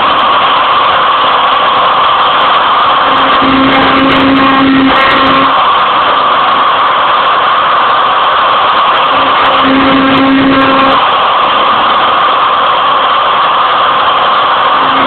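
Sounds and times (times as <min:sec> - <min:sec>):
router spindle cutting: 0:00.0 - 0:15.0.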